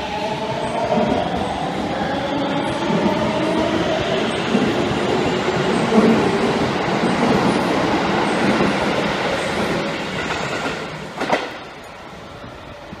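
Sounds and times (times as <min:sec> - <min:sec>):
electric train rolling past: 0:00.0 - 0:13.0.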